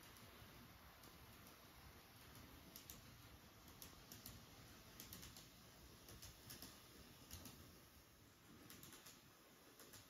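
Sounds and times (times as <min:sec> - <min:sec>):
model train wheels clicking: 0:00.0 - 0:10.0.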